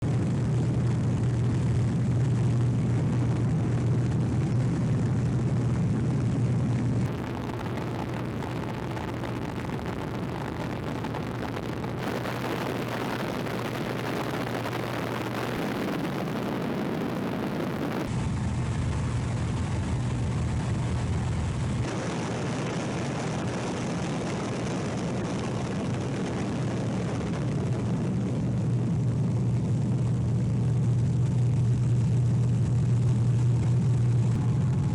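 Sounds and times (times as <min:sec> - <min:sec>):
propeller aircraft engine drone: 0:00.0 - 0:34.9.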